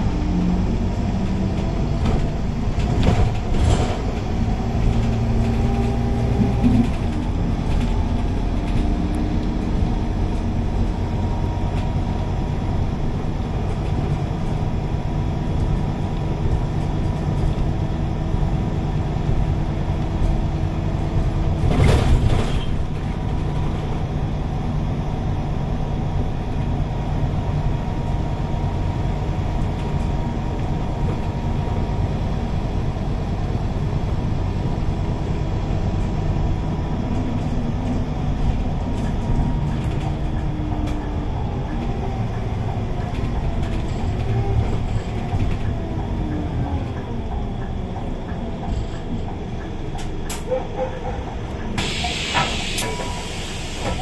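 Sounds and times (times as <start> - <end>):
bus engine hum: 0.0 - 54.0
road noise: 0.0 - 54.0.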